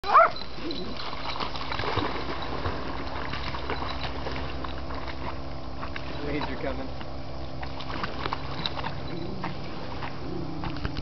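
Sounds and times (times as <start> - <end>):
dog paddling in water: 0.0 - 11.0.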